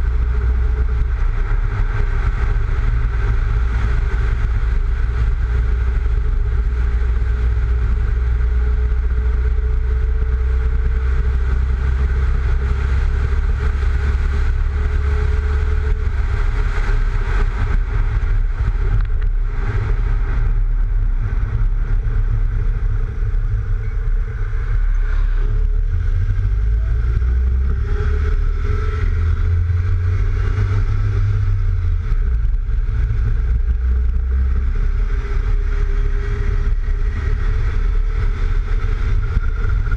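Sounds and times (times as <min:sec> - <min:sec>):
car engine: 0:00.0 - 0:39.9
tyre road noise: 0:00.0 - 0:39.9
wind rumbling over microphone: 0:00.0 - 0:39.9.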